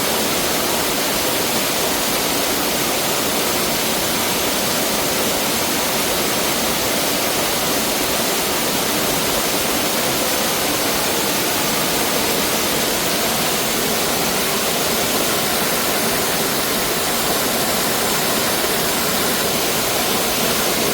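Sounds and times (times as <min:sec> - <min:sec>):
stream water rushing over rocks: 0:00.0 - 0:20.9.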